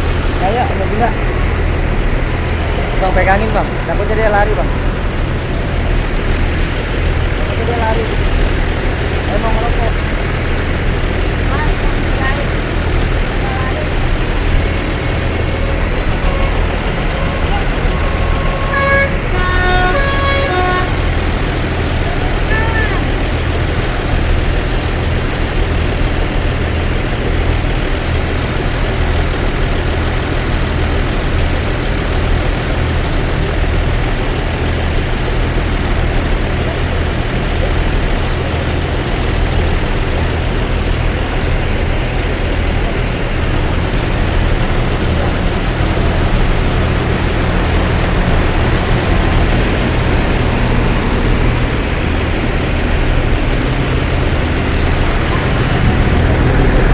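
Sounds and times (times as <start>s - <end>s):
bus diesel engine humming: 0.0s - 56.9s
traffic noise: 0.0s - 56.9s.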